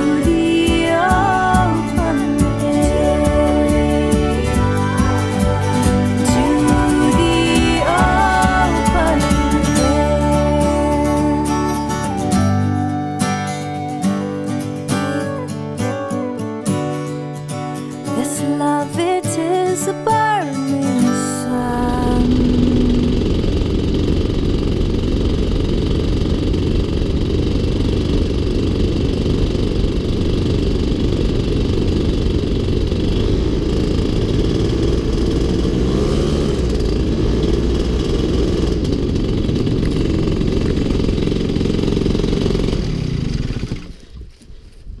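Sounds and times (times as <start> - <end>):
paraglider engine drone: 0.0 - 16.4, 21.5 - 44.4.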